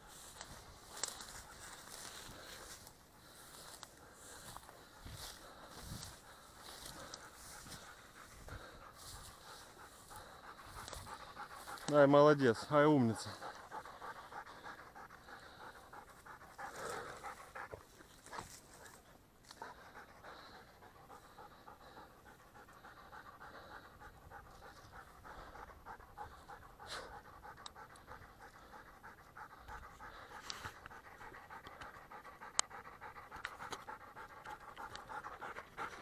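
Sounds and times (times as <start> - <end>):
dog panting: 0.0 - 36.0.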